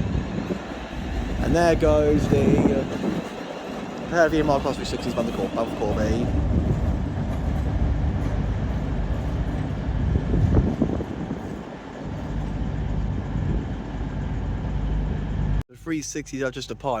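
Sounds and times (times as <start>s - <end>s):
train rumbling: 0.0s - 15.6s.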